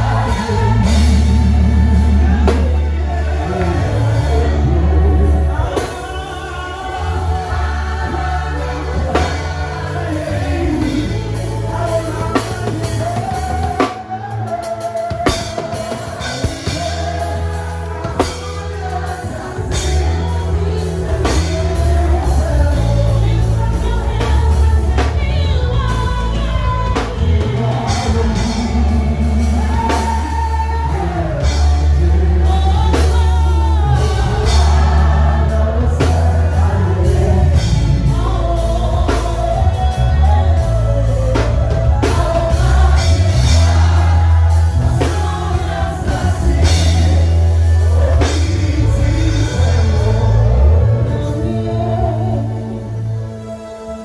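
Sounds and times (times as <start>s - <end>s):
gospel band playing: 0.0s - 54.0s
people singing: 0.0s - 54.0s.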